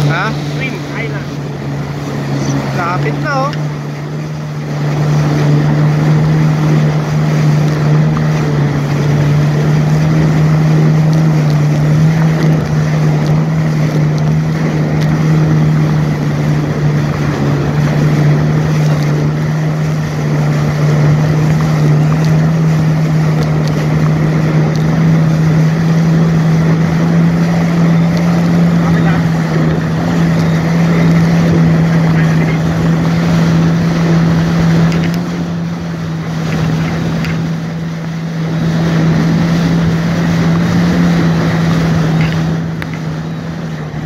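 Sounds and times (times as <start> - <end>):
jet ski engine humming: 0.0 - 44.0
water rushing: 0.0 - 44.0
wind: 0.0 - 44.0.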